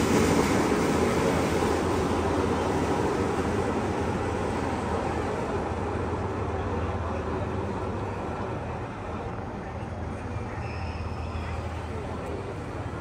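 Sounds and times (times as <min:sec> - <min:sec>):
funicular car rumbling: 0:00.0 - 0:13.0.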